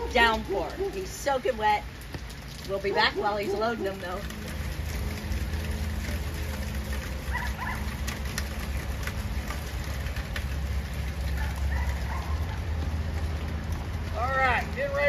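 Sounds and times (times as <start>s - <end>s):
drops ticking: 0.0s - 15.0s
rain falling: 0.0s - 15.0s.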